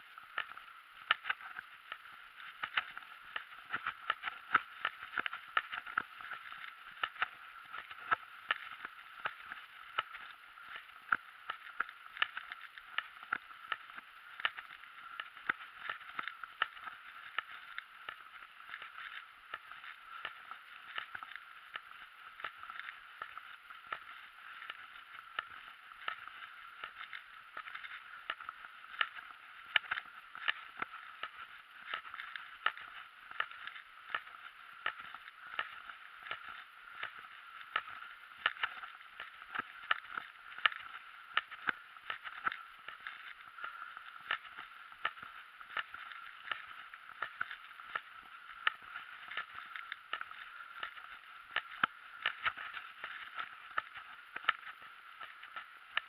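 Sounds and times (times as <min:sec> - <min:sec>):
bike clicks and rattles: 0:00.2 - 0:56.0.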